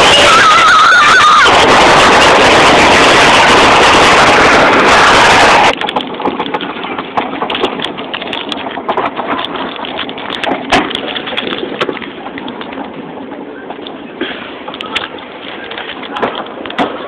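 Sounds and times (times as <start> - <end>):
wind rushing over microphone: 0.0 - 16.8
roller coaster clicking and rattling: 0.0 - 17.0.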